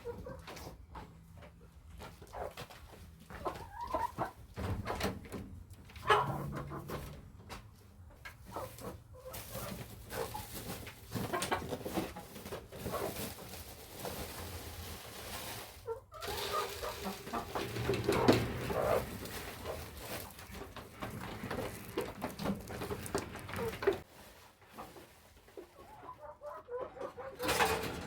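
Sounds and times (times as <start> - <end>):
chickens clucking: 0.0 - 14.4, 15.2 - 24.1, 24.7 - 28.0.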